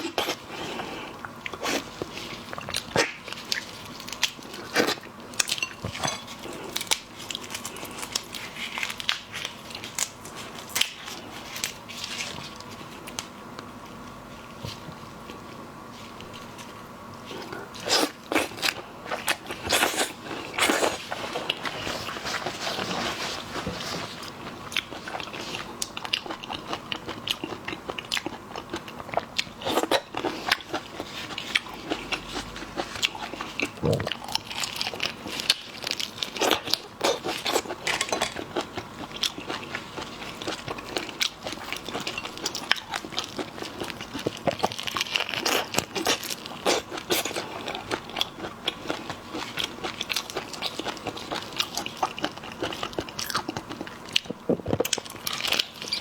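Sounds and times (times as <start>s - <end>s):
crunching and chewing: 0.0s - 13.3s, 14.5s - 56.0s.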